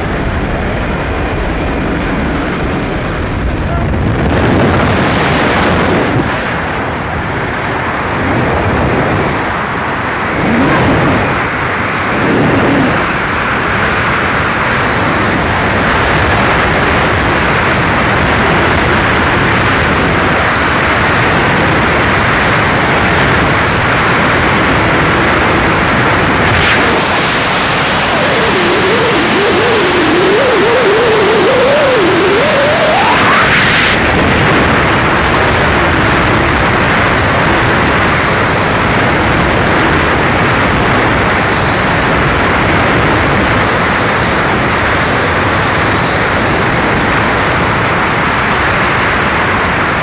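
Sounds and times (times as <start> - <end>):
freefall wind rushing over microphone: 0.0 - 50.0.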